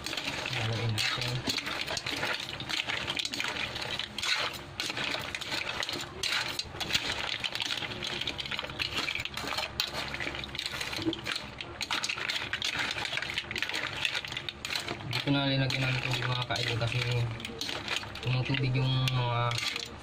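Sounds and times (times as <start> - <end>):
cooking juices hissing: 0.0 - 20.0
shells clattering in metal wok: 0.0 - 20.0.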